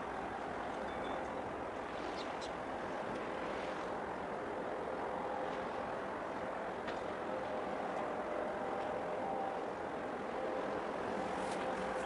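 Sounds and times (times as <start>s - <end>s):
faint engine hum: 0.0s - 12.0s
sea rushing: 0.0s - 12.0s.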